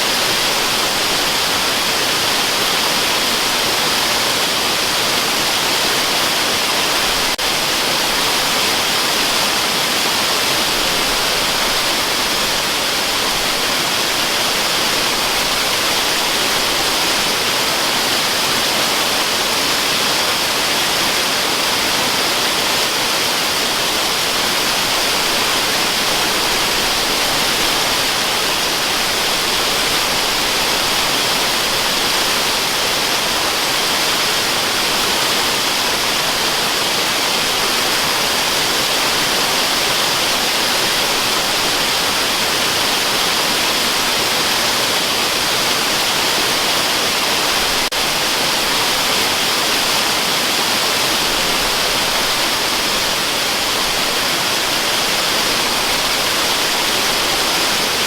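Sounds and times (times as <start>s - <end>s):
waterfall rushing water hiss: 0.0s - 58.0s.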